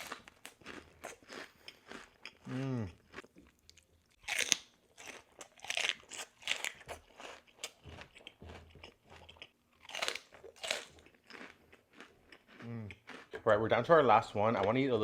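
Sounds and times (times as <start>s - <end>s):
crunching and chewing chips: 0.0s - 15.0s.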